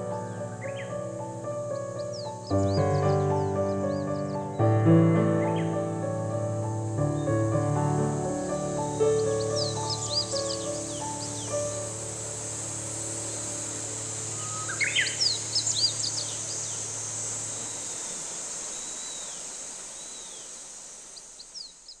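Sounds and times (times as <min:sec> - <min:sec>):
birds chirping: 0:00.0 - 0:22.0
high-pitched insect buzz: 0:00.0 - 0:22.0.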